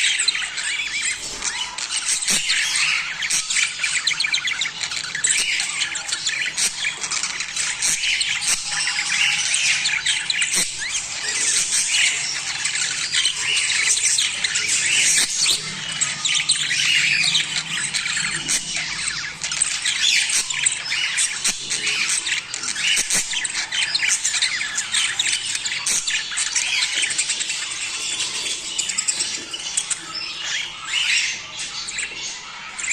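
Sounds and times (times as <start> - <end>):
budgerigars chattering: 0.0 - 32.9.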